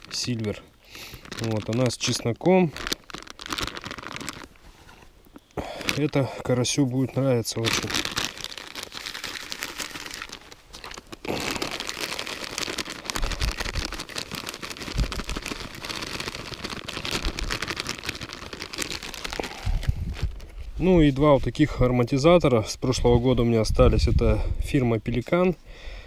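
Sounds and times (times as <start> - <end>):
plastic packet crinkling: 0.0 - 22.1.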